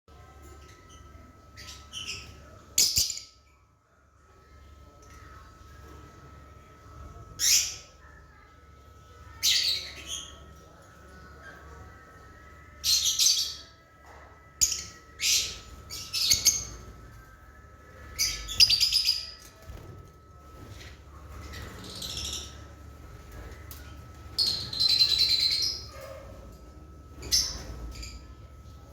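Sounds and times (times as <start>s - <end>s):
faint steady hum: 0.1s - 28.9s.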